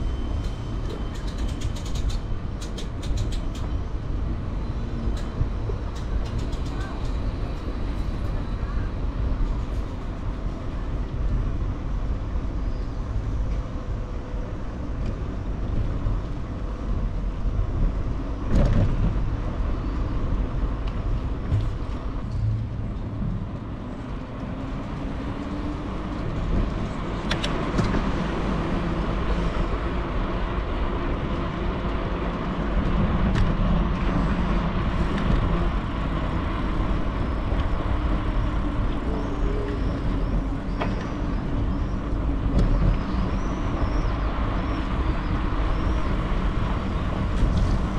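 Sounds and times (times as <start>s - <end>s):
background traffic: 0.0s - 47.9s
tyre and road noise: 0.0s - 47.9s
wind rumble on microphone: 0.0s - 47.9s.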